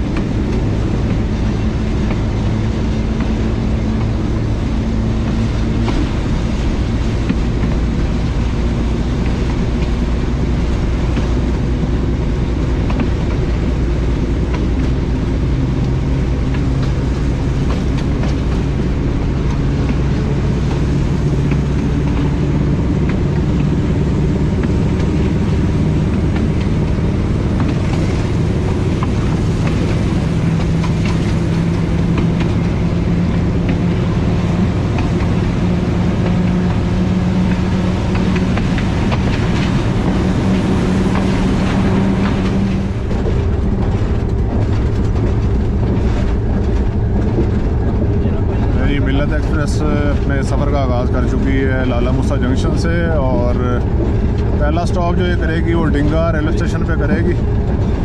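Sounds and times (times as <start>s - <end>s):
diesel locomotive engine: 0.0s - 58.0s
wheels rumbling on rail: 0.0s - 58.0s.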